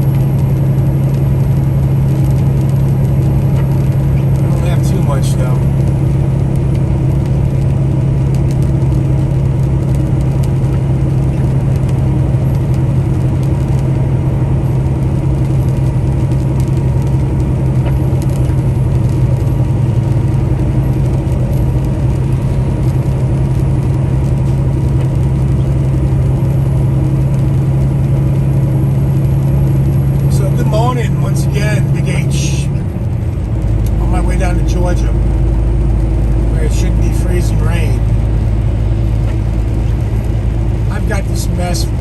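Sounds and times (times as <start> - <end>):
road noise: 0.0 - 42.0
truck diesel engine droning: 0.0 - 42.0.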